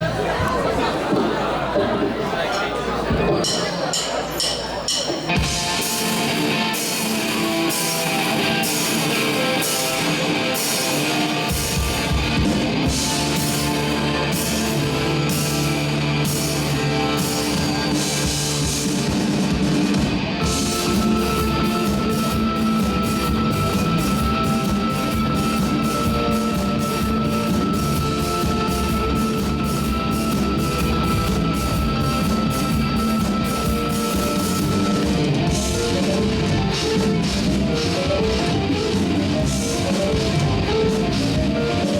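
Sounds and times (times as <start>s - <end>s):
heavy rock band playing: 3.0s - 41.9s.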